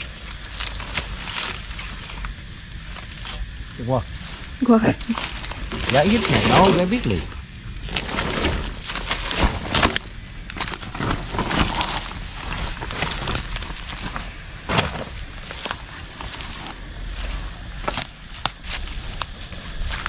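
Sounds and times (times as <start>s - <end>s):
high-pitched insect drone: 0.0s - 20.0s
rustling through vegetation: 0.0s - 20.0s.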